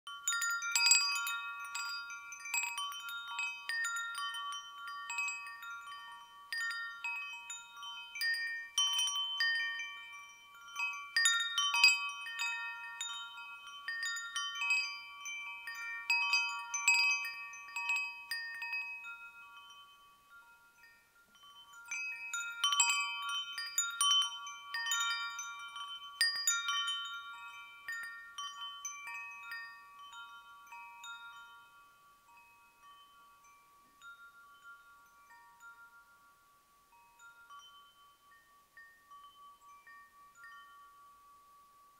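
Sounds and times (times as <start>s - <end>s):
metal chimes ringing: 0.1s - 41.9s.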